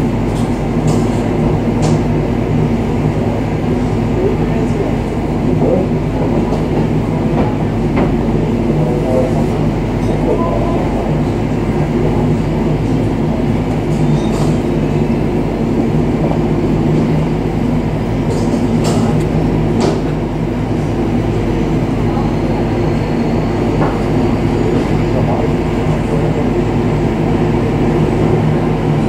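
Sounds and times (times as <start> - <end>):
propeller engine drone: 0.0 - 29.0.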